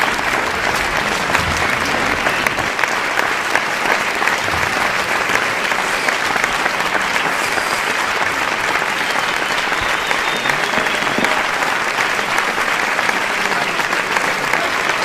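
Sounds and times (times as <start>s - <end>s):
audience applauding: 0.0s - 15.0s
crowd voices: 0.0s - 15.0s.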